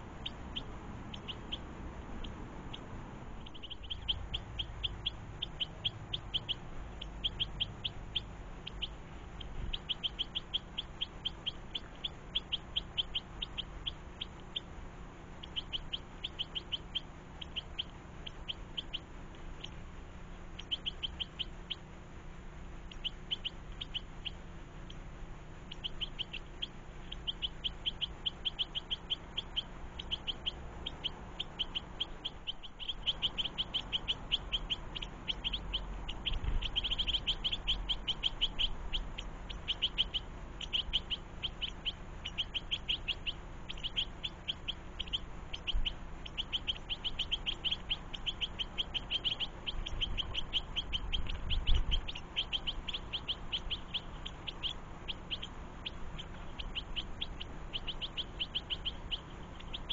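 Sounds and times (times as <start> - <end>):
goldfinch chirping: 0.0 - 14.7, 15.3 - 21.9, 22.8 - 59.9.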